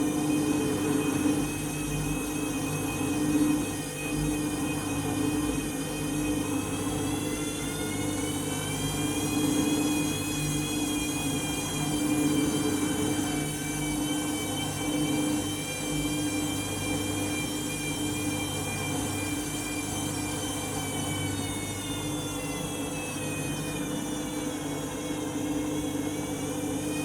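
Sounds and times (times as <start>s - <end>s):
high motor whine: 0.0s - 27.0s
washing machine spinning: 0.0s - 27.0s.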